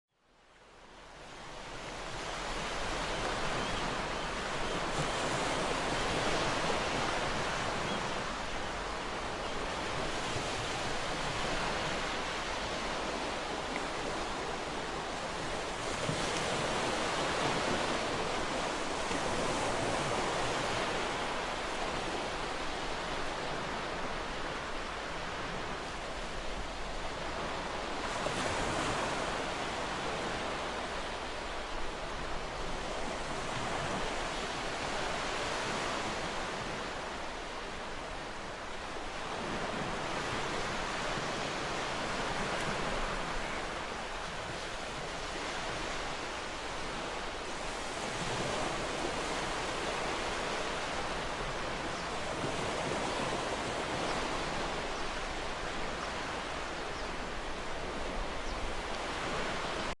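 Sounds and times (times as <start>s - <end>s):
ocean waves: 0.4s - 60.0s.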